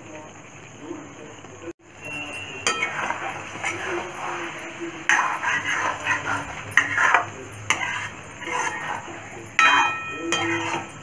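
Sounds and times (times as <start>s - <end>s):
metal spatula scraping pan: 2.0s - 11.0s
spatula clacking against pan: 2.2s - 11.0s.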